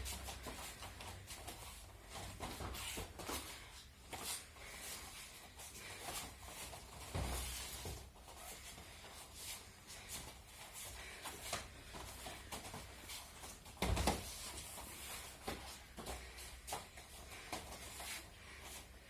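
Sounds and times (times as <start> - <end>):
feet shuffling on mats: 0.0 - 19.0.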